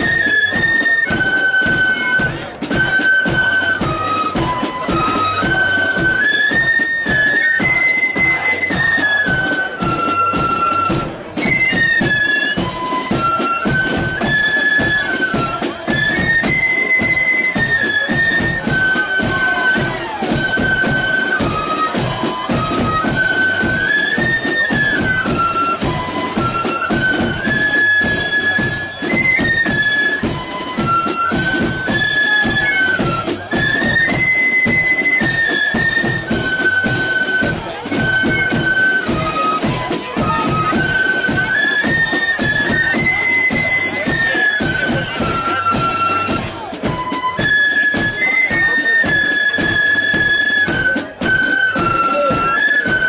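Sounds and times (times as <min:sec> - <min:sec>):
flutes playing melody: 0:00.0 - 0:53.0
side drums: 0:00.0 - 0:53.0.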